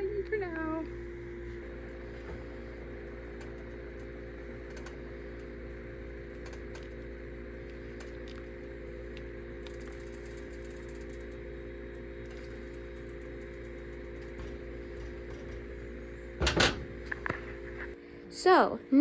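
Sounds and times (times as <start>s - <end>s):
appliance motor humming: 0.0s - 18.0s.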